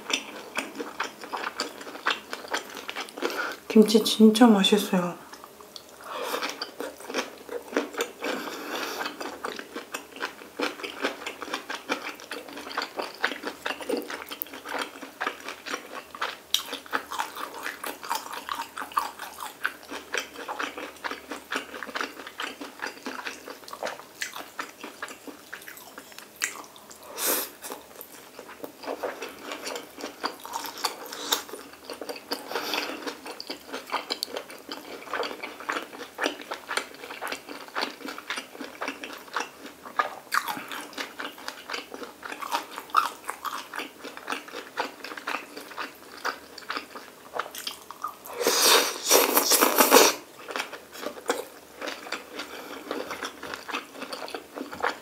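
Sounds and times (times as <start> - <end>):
close-miked chewing: 0.0 - 3.6, 5.3 - 55.0.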